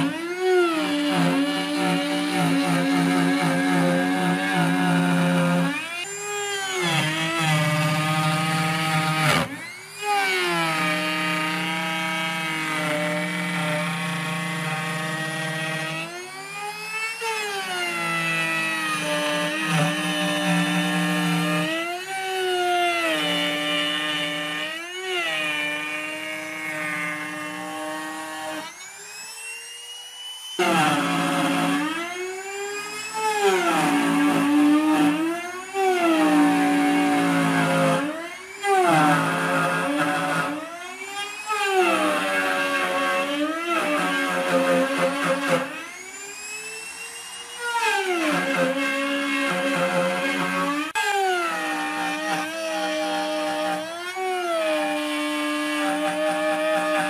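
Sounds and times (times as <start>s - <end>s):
power tool motor whining: 0.0s - 57.0s.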